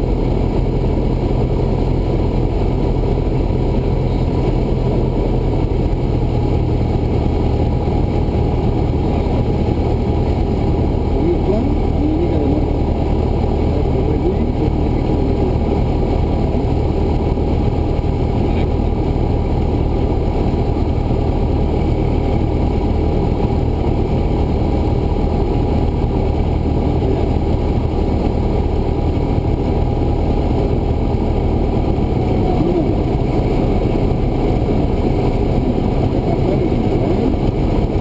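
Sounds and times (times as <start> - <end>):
propeller plane engine drone: 0.0 - 38.0.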